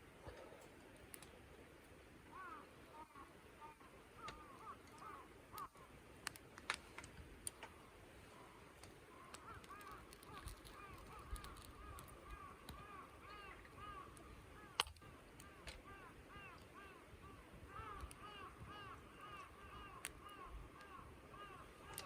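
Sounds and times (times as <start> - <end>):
flock of birds calling: 2.3 - 6.0, 7.5 - 22.0.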